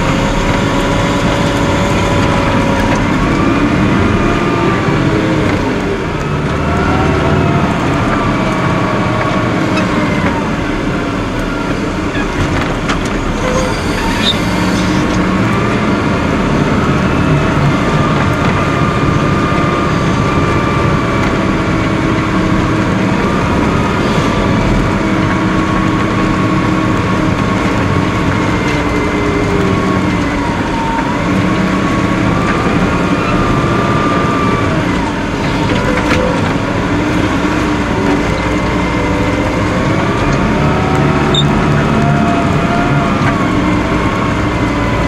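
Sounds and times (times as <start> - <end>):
diesel engine running under load: 0.0 - 45.0
whining tones: 0.0 - 45.0.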